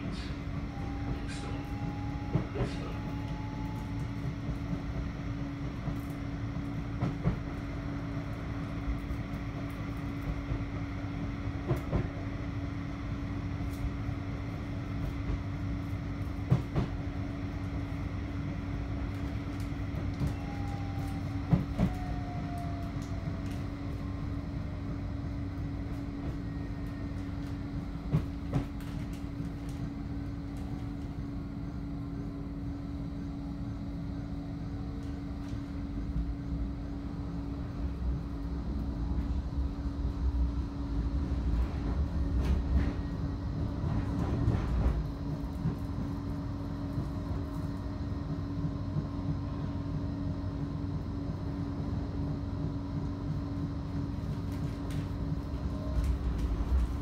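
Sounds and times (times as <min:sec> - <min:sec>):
constant hum: 0:00.0 - 0:57.0
tram rumbling on track: 0:00.0 - 0:57.0.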